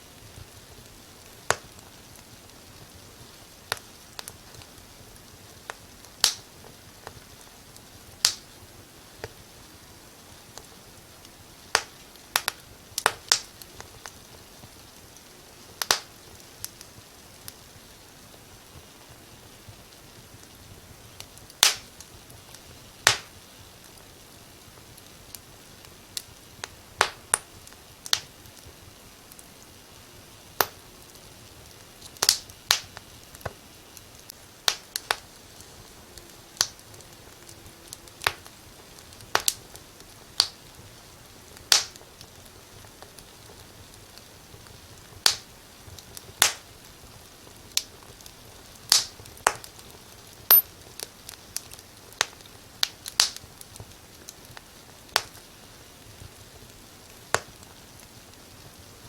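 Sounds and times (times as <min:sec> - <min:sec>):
faint steady hiss: 0:00.0 - 0:59.0
wood fire crackling: 0:00.0 - 0:59.0.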